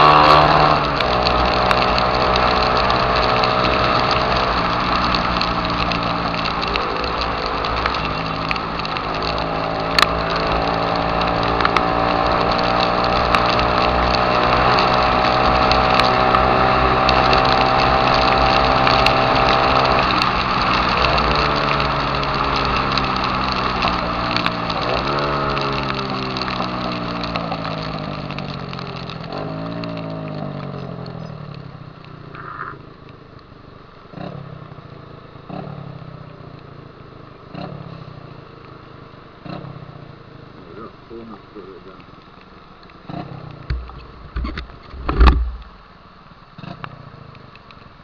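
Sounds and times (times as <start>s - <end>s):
motorcycle engine revving: 0.0s - 42.1s, 42.9s - 47.7s
motorcycle throttle blips: 0.0s - 45.9s.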